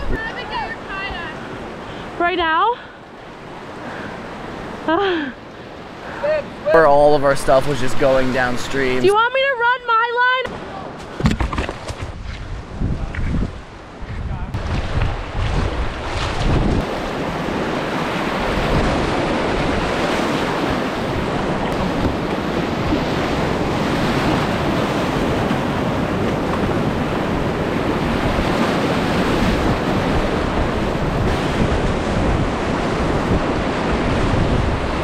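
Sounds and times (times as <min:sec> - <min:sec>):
wind buffeting microphone: 0:00.0 - 0:04.8, 0:10.5 - 0:35.0.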